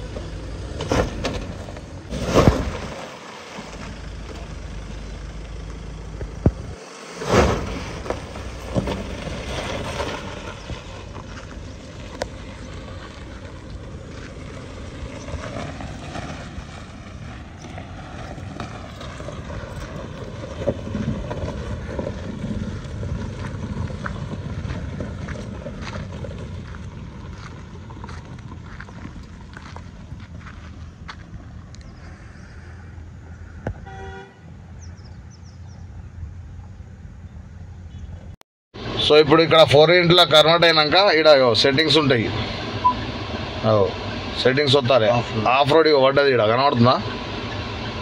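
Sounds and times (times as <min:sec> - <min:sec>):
vehicle engine and road rumble: 0:00.0 - 0:48.0.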